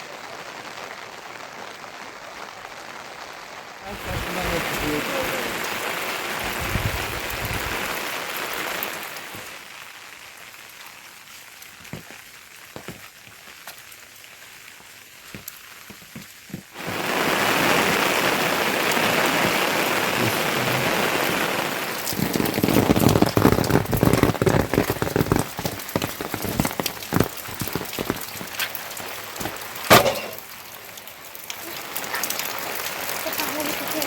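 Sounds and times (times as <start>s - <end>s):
rain: 0.0s - 34.0s.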